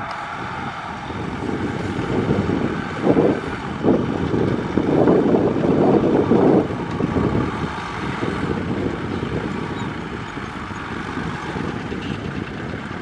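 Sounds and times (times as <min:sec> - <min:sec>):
tractor engine drone: 0:00.0 - 0:13.0.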